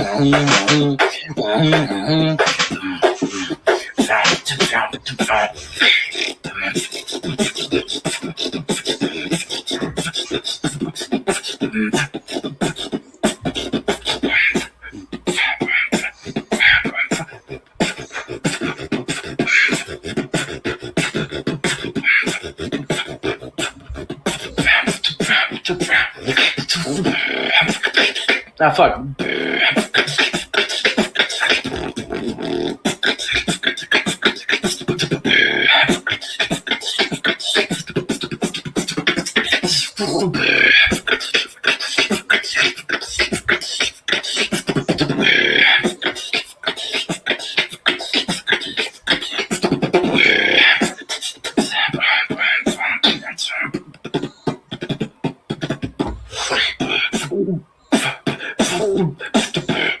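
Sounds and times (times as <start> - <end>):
beatboxing: 0.0 - 60.0.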